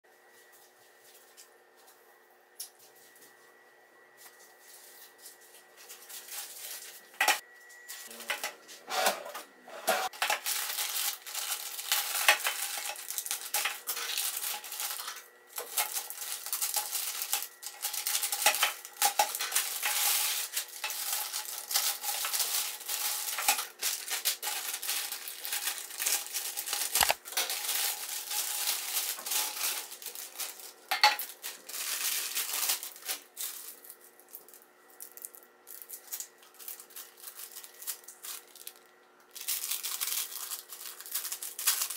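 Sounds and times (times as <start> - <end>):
plastic packaging crinkling: 4.3 - 8.4, 10.1 - 41.9.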